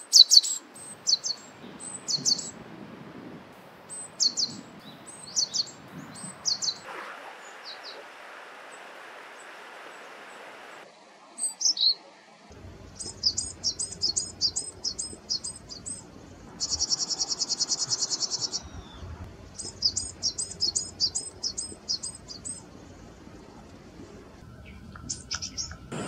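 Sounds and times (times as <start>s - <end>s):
songbird calling: 0.0s - 2.7s, 3.6s - 10.8s, 12.9s - 26.0s.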